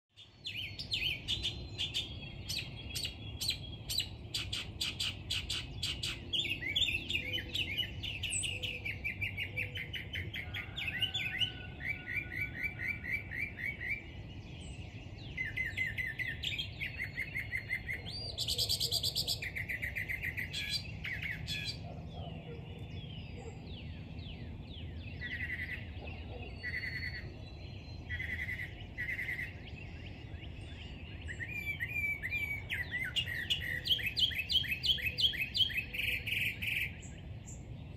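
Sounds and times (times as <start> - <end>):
songbirds singing: 0.1 - 37.9.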